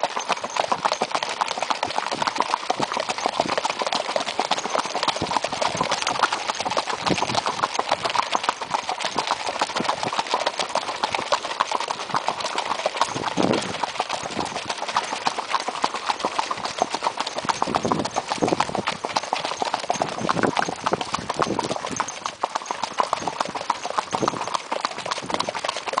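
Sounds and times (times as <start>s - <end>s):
horse hooves on gravel track: 0.0s - 26.0s.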